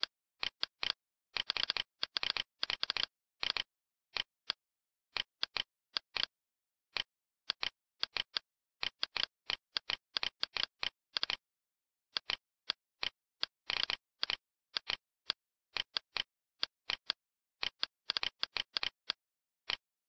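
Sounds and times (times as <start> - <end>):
mouse and keyboard clicks: 0.4 - 4.6, 5.2 - 6.3, 7.0 - 11.4, 12.2 - 19.9.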